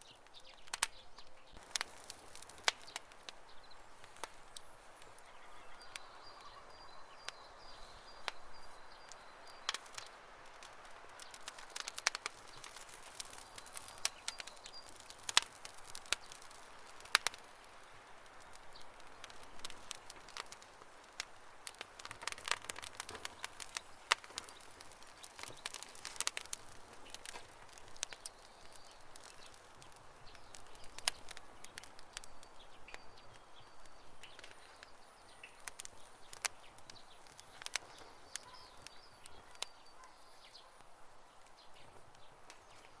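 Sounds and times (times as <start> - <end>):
campfire crackling and popping: 0.0 - 43.0
soft steady fire hiss: 0.0 - 43.0.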